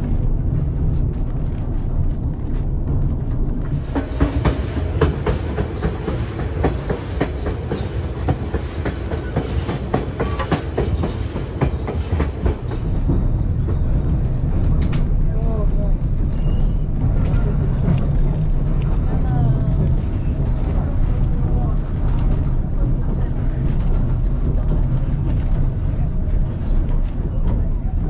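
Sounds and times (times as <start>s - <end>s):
train rumbling: 0.0s - 28.0s
wheels clacking on rails: 0.0s - 28.0s.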